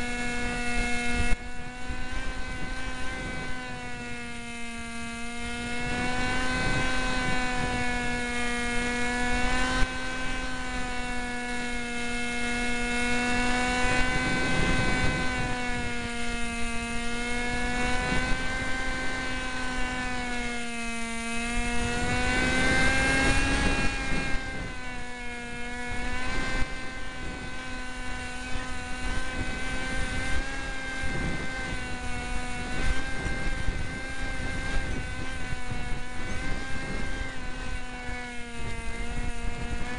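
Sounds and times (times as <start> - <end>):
wind rumbling over microphone: 0.0 - 4.5, 5.3 - 20.6, 21.2 - 39.9
electric model plane motor whine: 0.0 - 39.9.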